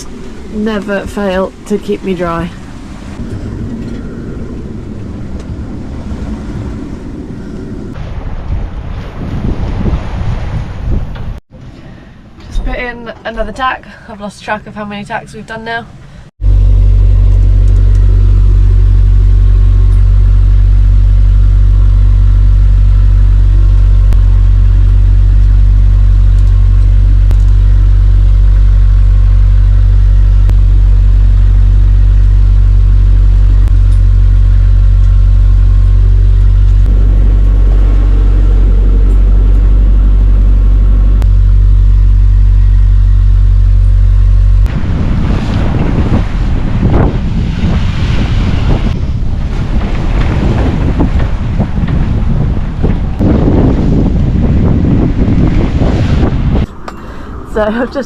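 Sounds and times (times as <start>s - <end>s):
low mechanical drone: 0.0s - 58.0s.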